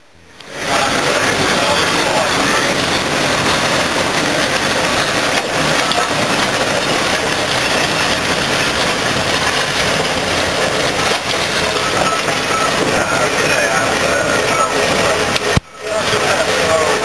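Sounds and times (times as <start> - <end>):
steam roller moving: 0.0 - 17.0.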